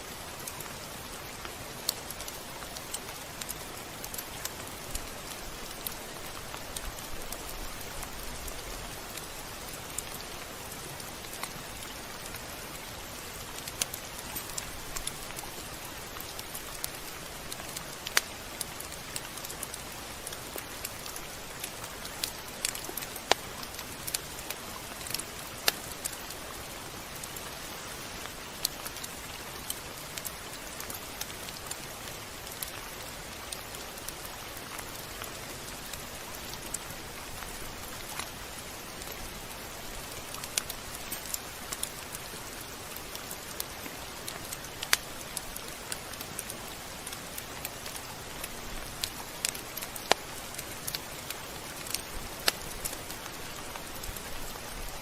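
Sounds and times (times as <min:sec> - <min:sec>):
raindrops ticking on a surface: 0:00.0 - 0:55.0
steady rain hiss: 0:00.0 - 0:55.0.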